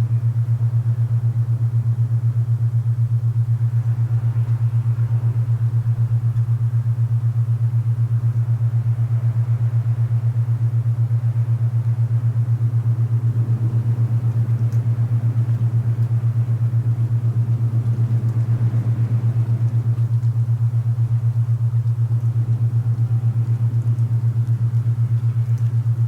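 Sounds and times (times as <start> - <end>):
throbbing low hum tone: 0.0 - 26.0.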